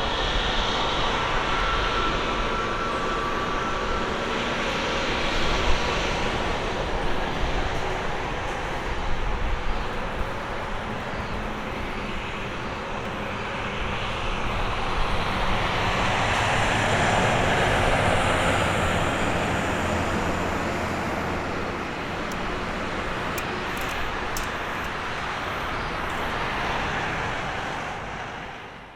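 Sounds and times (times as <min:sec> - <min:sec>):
jet engines rushing: 0:00.0 - 0:28.9.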